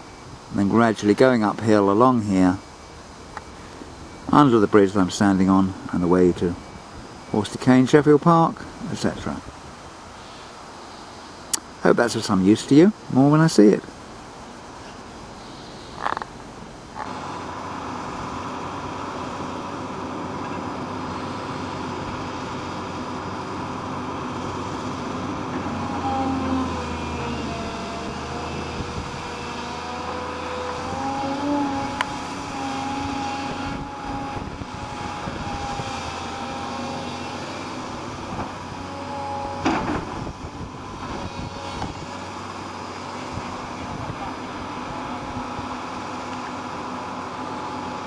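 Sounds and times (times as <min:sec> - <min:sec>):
excavator engine droning: 0:00.0 - 0:11.8, 0:13.0 - 0:48.0.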